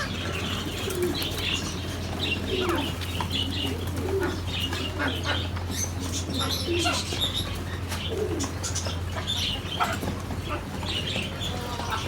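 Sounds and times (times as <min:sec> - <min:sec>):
doves cooing: 0:00.0 - 0:12.0
small birds chirping: 0:00.0 - 0:12.0.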